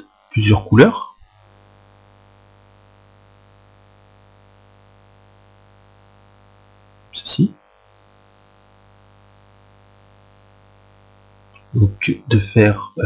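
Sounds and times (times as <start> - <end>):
electrical mains hum with hiss: 0.0 - 13.0.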